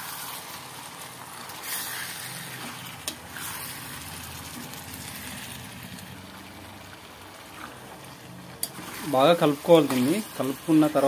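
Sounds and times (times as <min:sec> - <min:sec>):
spatula stirring: 0:00.0 - 0:06.1, 0:07.2 - 0:11.0
chicken sizzling in a pan: 0:00.0 - 0:11.0.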